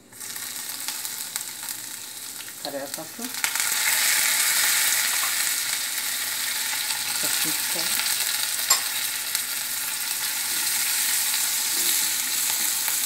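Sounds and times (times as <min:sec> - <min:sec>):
spices sizzling in hot ghee: 0:00.0 - 0:13.0.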